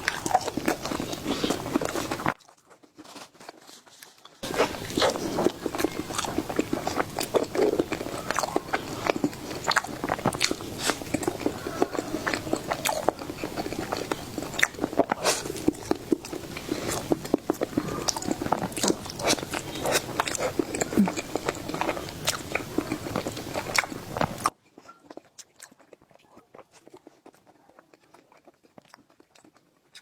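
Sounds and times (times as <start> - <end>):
person biting and chewing: 0.0 - 3.6, 4.4 - 26.1.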